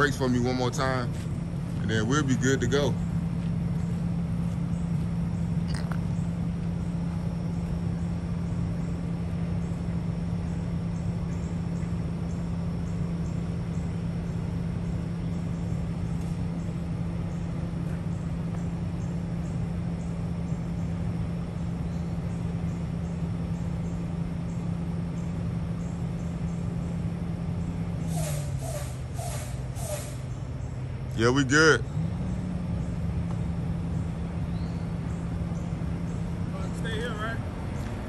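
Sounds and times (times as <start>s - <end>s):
diesel truck engine idling: 0.0s - 38.0s.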